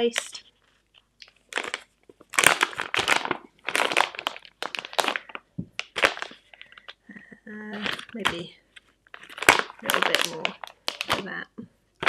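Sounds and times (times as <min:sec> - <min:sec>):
plastic pouch crinkling: 0:00.0 - 0:11.4.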